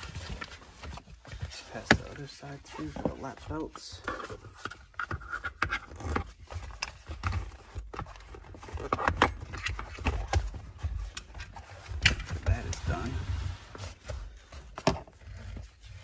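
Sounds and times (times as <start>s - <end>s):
nylon webbing rustling and scraping: 0.0s - 5.0s, 5.9s - 16.0s.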